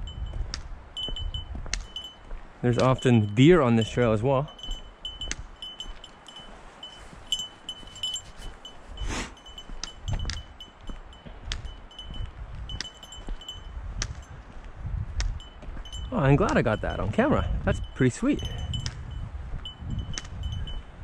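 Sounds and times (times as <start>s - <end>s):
wind rumble on microphone: 0.0s - 21.0s
small bell jingling: 1.0s - 14.4s, 15.4s - 20.9s.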